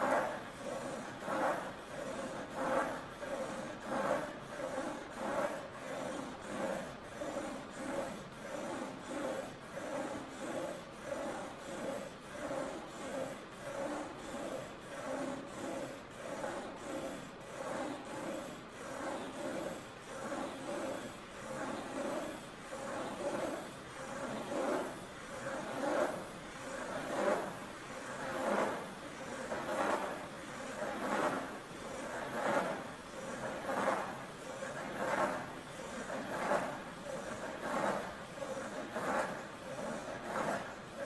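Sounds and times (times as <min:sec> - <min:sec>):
pen scratching on paper: 0:00.0 - 0:41.0
wooden arms rubbing at joints: 0:00.0 - 0:41.0.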